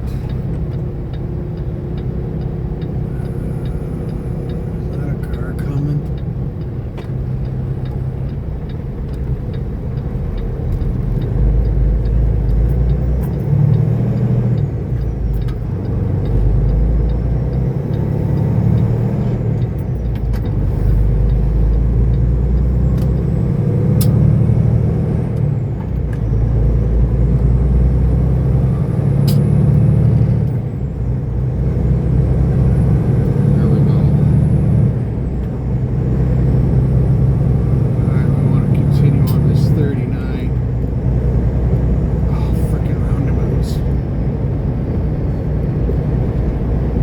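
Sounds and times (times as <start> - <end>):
truck engine rumbling: 0.0 - 47.0.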